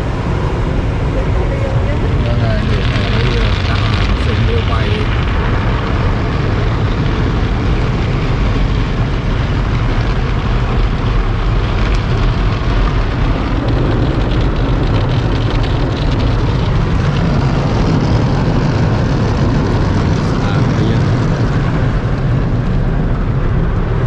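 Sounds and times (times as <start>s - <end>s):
car wash machinery: 0.0s - 24.0s
low rumble: 0.0s - 24.0s.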